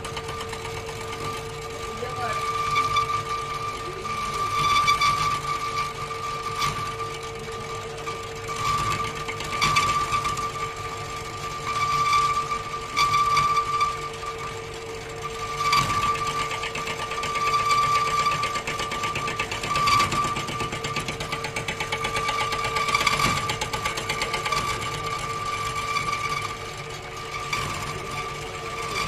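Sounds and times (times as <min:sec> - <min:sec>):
lathe motor whine: 0:00.0 - 0:29.0.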